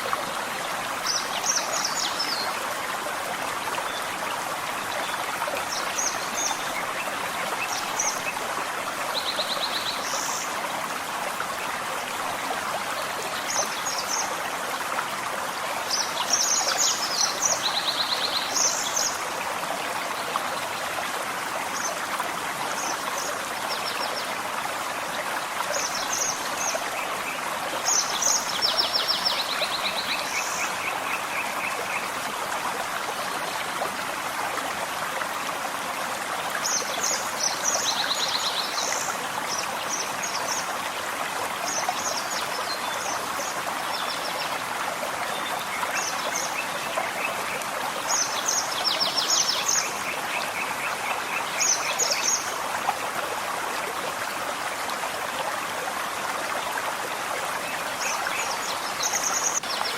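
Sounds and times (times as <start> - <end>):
forest stream running: 0.0 - 59.9.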